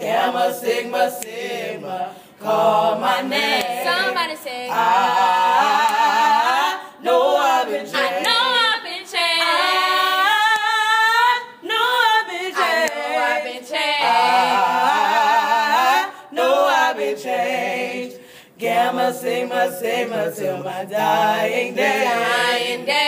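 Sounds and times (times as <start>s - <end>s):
group singing a cappella: 0.0s - 23.0s.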